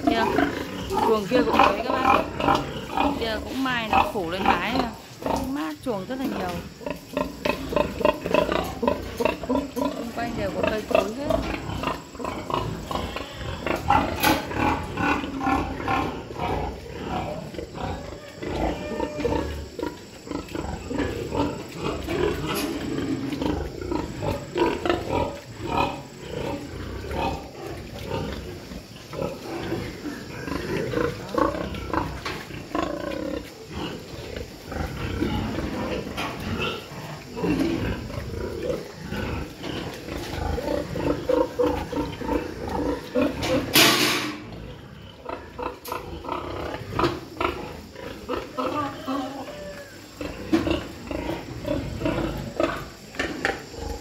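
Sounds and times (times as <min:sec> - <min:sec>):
pigs grunting and calling: 0:00.0 - 0:54.0.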